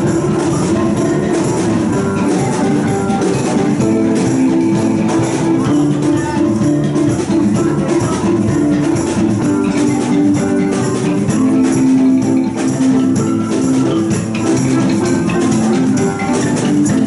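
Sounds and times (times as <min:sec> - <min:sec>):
band playing music: 0:00.0 - 0:17.0.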